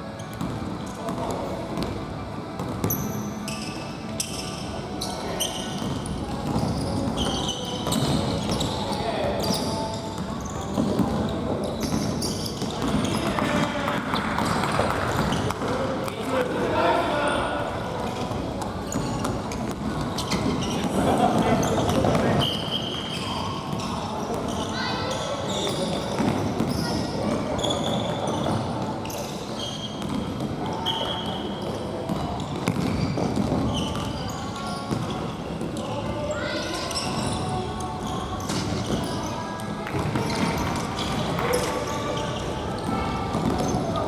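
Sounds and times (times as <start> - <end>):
sneakers squeaking on gym floor: 0.0 - 16.3, 17.2 - 44.0
din of play in echoing hall: 0.0 - 44.0.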